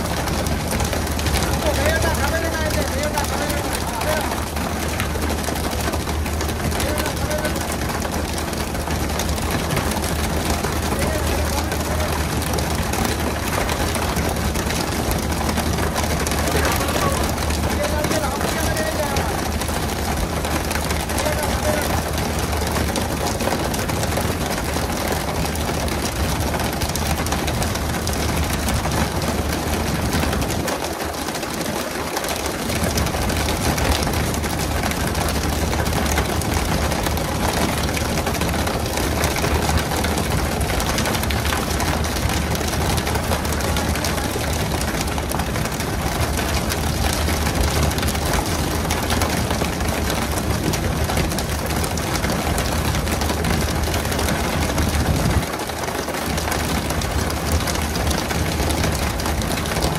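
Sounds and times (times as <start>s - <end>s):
boat engine humming: 0.0s - 55.8s
water rushing and spray: 0.0s - 59.9s.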